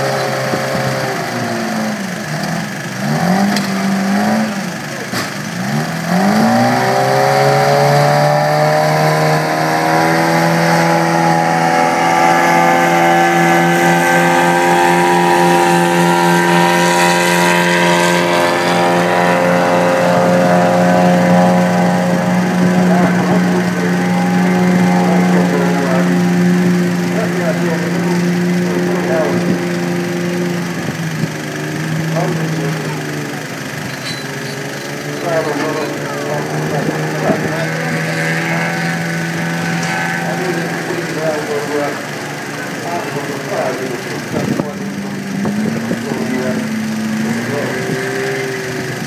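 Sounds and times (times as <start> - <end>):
diesel engine running hard: 0.0 - 49.0.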